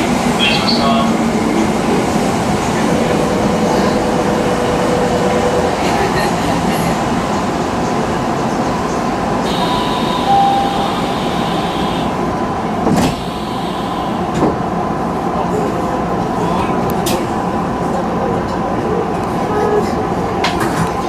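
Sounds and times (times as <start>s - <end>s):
train cab hum and hiss: 0.0s - 21.0s.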